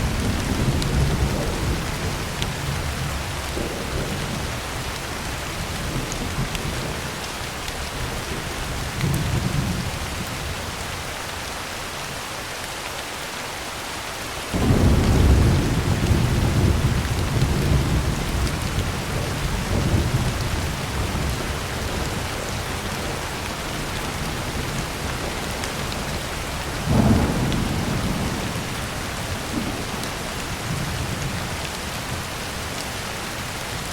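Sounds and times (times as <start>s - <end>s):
thunder rumbling and clapping: 0.0s - 10.5s, 14.6s - 32.9s
heavy rain on a tin roof: 0.0s - 33.9s.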